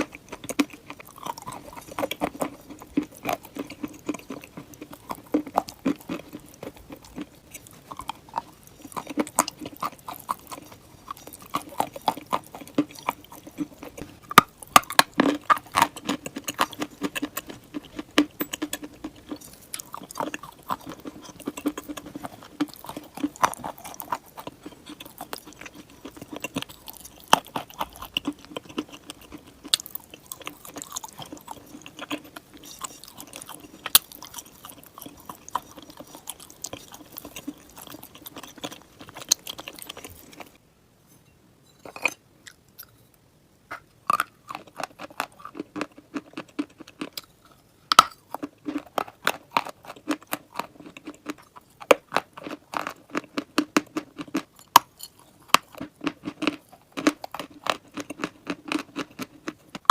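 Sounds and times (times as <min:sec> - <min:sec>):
person chewing crunchy chalk: 0:00.0 - 0:40.6, 0:43.7 - 0:59.9.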